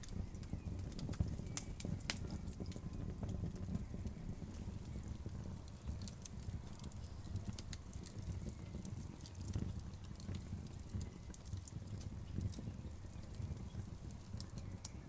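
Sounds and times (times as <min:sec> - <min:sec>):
burning logs crackling: 0:00.0 - 0:15.0
low fire rumble: 0:00.0 - 0:15.0.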